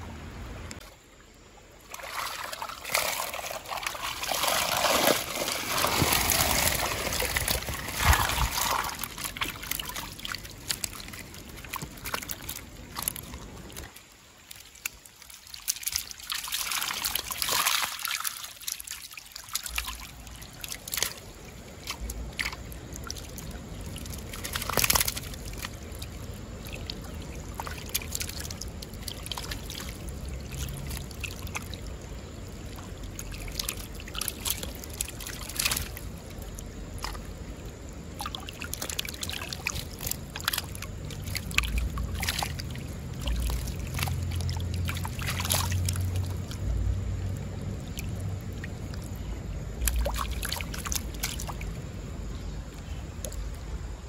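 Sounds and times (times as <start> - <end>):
creek water trickling and splashing: 0.0 - 54.0.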